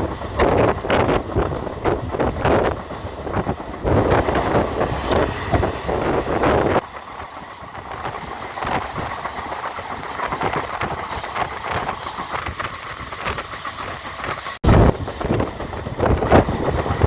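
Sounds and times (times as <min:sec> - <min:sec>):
train rattles and clicks: 0:00.0 - 0:17.0
train rolling rumble: 0:00.0 - 0:17.0.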